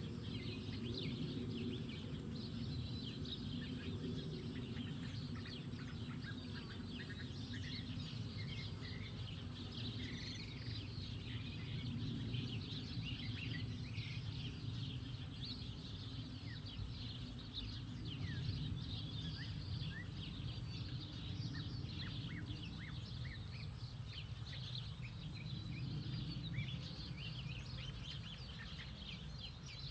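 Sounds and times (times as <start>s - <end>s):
bird chirps: 0.0s - 29.9s.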